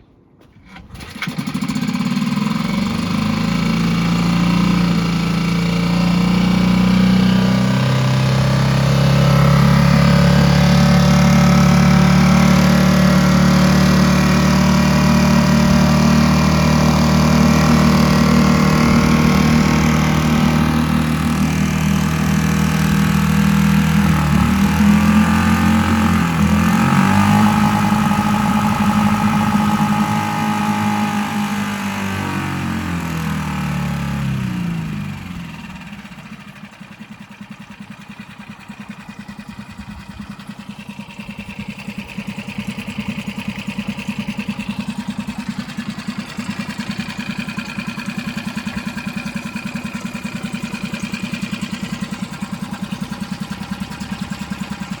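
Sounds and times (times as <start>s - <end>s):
outboard motor running: 0.4s - 55.0s.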